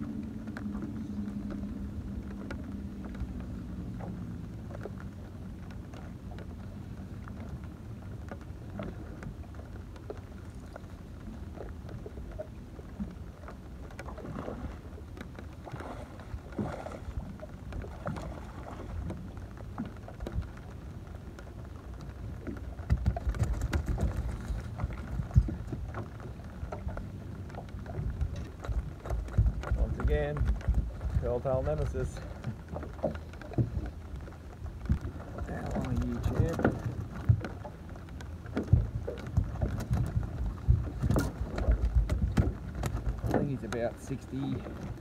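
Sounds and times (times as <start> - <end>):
rain and wind rumble: 0.0 - 45.0.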